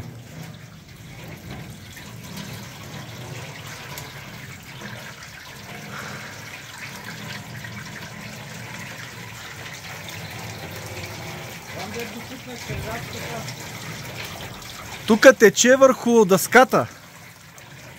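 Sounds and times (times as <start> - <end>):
gutter dripping: 0.0 - 17.9
water running along metal gutter: 0.0 - 17.9.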